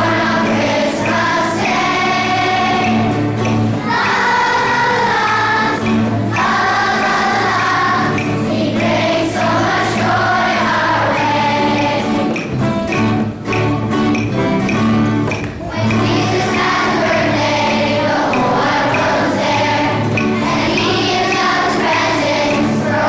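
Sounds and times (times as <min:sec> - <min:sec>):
children's choir singing: 0:00.0 - 0:23.0
instrumental accompaniment: 0:00.0 - 0:23.0.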